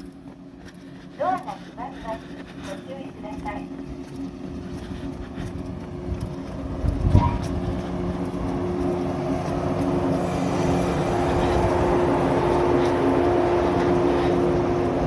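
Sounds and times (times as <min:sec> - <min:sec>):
electric train running past: 0:01.2 - 0:15.0.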